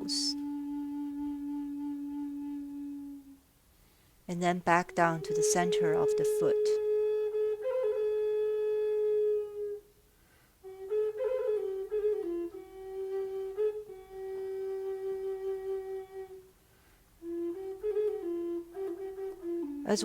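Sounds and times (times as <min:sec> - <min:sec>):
slow flute melody: 0:00.0 - 0:03.6, 0:04.7 - 0:20.0.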